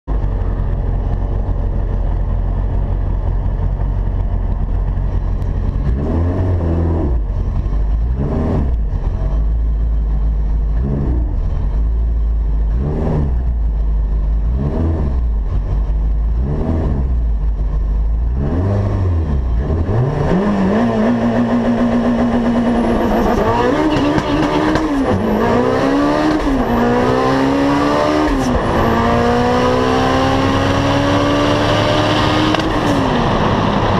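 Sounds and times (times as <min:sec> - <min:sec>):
turbocharged car engine revving: 0:00.1 - 0:33.9.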